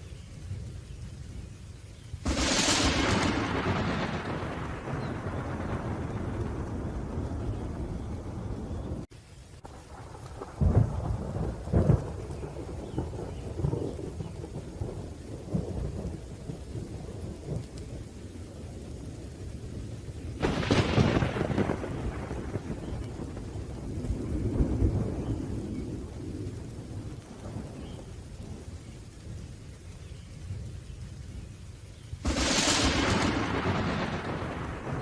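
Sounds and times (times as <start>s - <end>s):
steady rain: 0.0s - 35.0s
rolling thunder: 2.2s - 35.0s.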